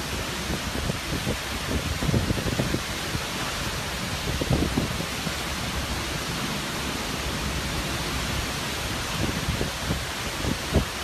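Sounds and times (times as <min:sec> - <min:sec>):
heavy rain rushing hiss: 0:00.0 - 0:11.0
wind buffeting microphone: 0:00.0 - 0:11.0.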